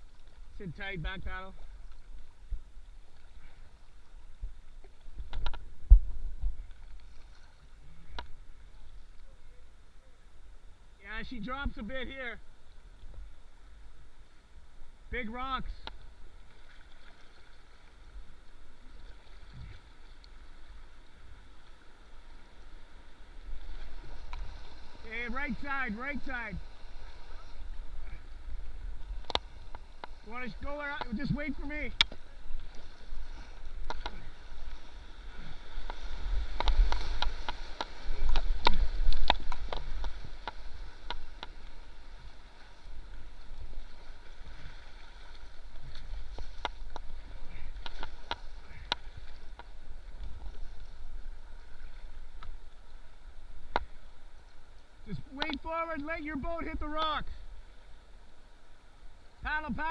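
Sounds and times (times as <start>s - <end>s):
rushing river water: 0.0s - 59.9s.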